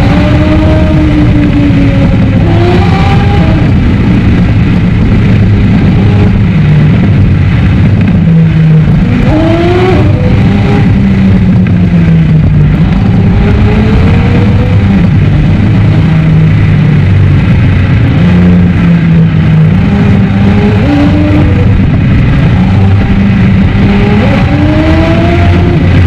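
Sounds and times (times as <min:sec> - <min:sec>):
car engine drone: 0:00.0 - 0:26.0
road noise: 0:00.0 - 0:26.0.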